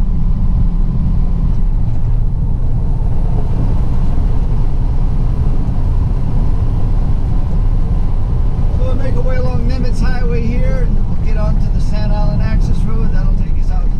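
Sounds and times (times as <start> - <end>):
road noise: 0.0 - 13.9
truck diesel engine driving: 0.0 - 13.9.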